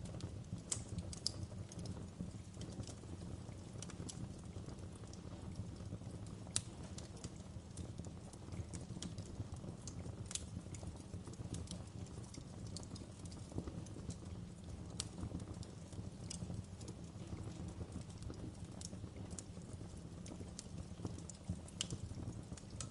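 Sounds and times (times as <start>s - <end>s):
wood fire crackling: 0.0s - 22.9s.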